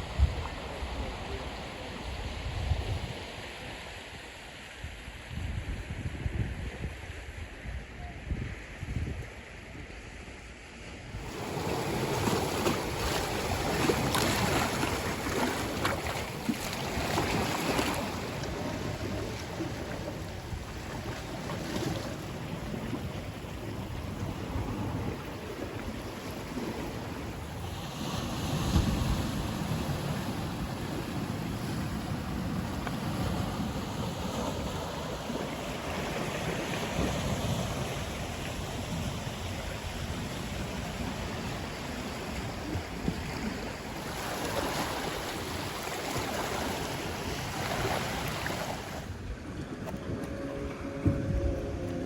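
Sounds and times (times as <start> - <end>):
wind buffeting microphone: 4.9 - 10.0, 11.1 - 52.0
sea waves: 10.0 - 52.0.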